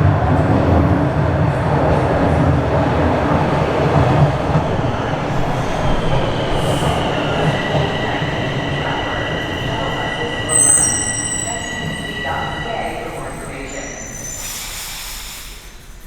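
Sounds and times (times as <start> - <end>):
subway train wheels rumbling: 0.0 - 16.0
high-pitched wheel squeal: 2.7 - 15.6.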